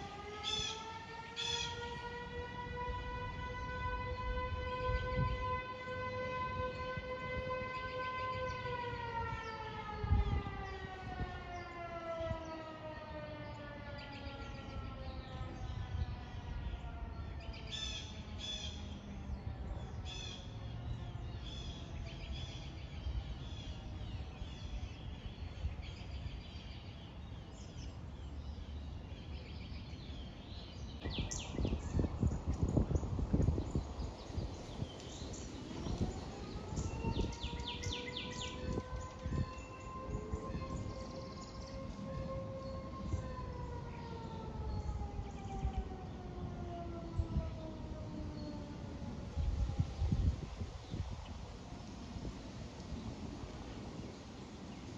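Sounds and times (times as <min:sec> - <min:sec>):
fire siren winding down: 0:00.0 - 0:23.7, 0:31.0 - 0:51.5
birds chirping: 0:00.0 - 0:49.6.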